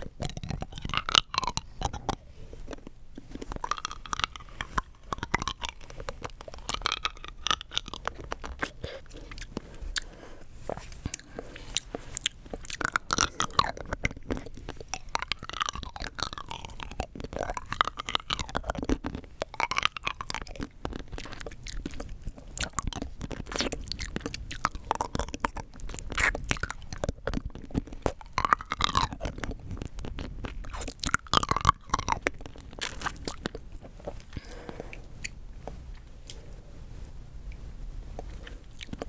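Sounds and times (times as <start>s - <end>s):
hard candy crunching: 0.0s - 36.4s, 38.1s - 39.0s.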